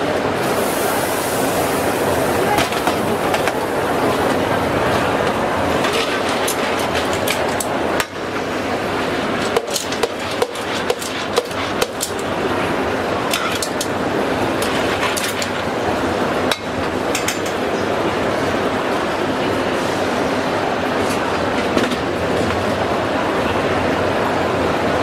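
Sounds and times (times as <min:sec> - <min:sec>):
steady noisy hiss: 0:00.0 - 0:25.0.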